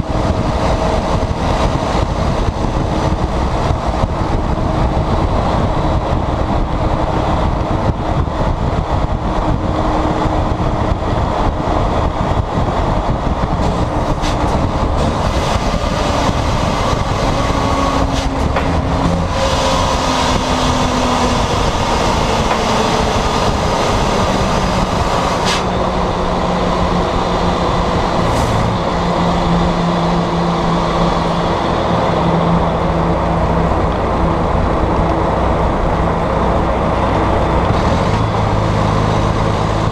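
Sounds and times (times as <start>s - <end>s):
straight-piped diesel truck engine: 0.0s - 39.9s
wind and road noise: 0.0s - 39.9s.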